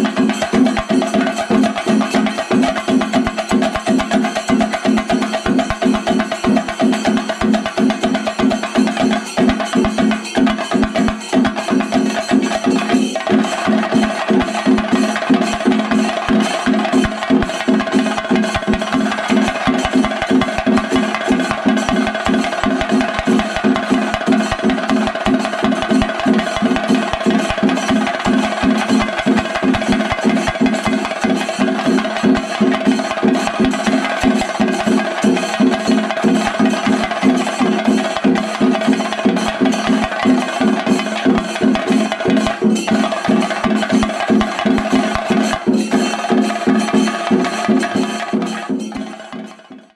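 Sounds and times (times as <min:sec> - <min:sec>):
fast drum strokes: 0:00.0 - 0:49.9.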